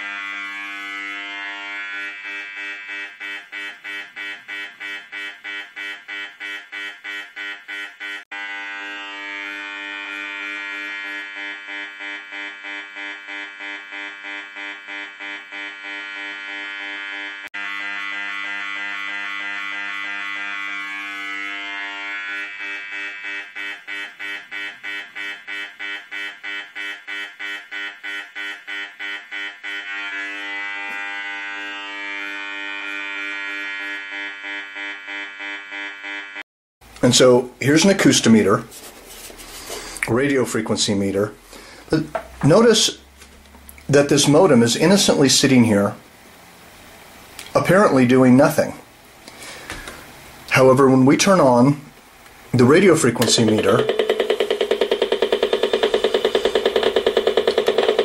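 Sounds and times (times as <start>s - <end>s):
detector speaker buzzing: 0.0s - 58.0s.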